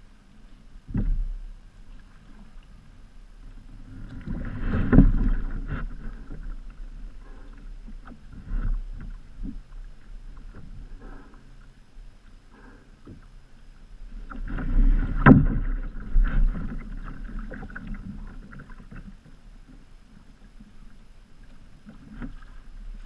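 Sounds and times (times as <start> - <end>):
water splashing against kayak hull: 0.0 - 23.0.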